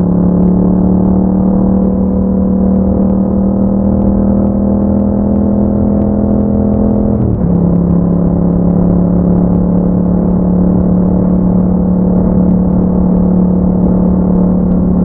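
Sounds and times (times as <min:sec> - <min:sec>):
motorcycle engine at steady revs: 0:00.0 - 0:15.0.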